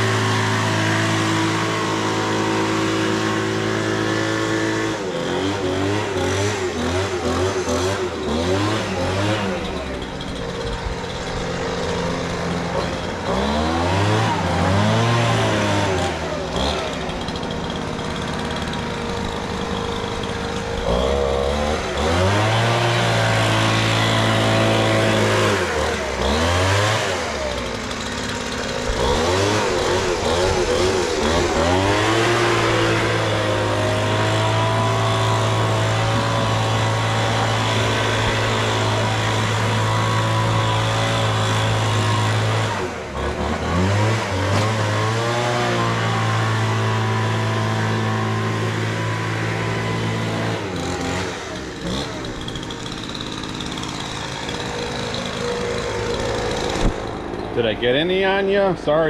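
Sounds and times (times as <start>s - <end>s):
leaf blower engine revving: 0.0s - 59.0s.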